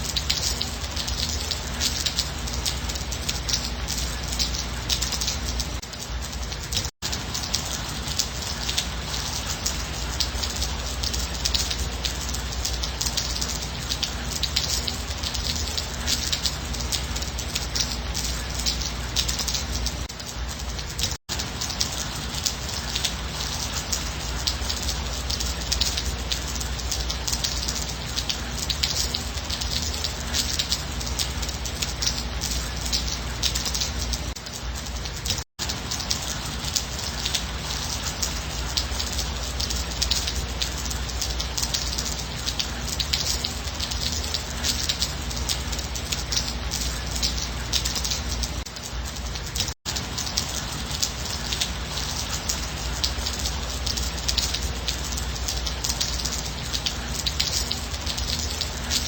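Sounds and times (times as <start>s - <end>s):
gentle rain patter: 0.0s - 59.0s.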